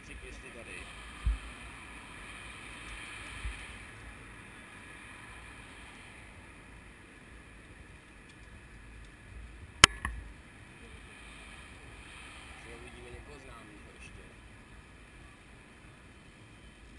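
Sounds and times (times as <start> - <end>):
cyclists riding past: 0.0 - 16.9.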